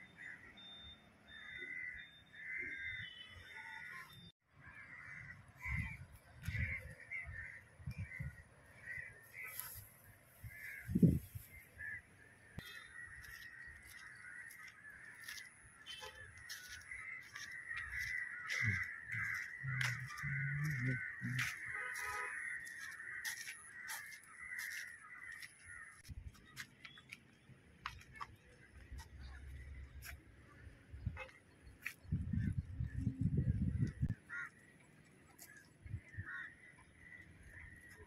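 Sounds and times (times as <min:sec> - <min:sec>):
chorus of bird calls: 0:00.0 - 0:09.9, 0:10.5 - 0:27.2, 0:28.2 - 0:38.0.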